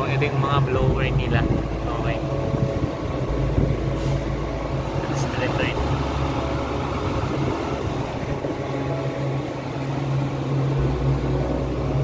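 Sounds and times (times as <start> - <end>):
air conditioning fan humming: 0.0 - 12.0.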